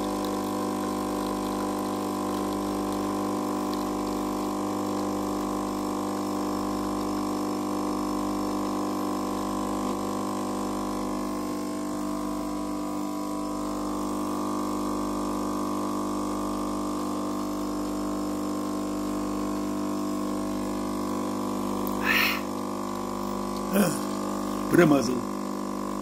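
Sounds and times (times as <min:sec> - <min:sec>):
coffee machine humming: 0:00.0 - 0:26.0.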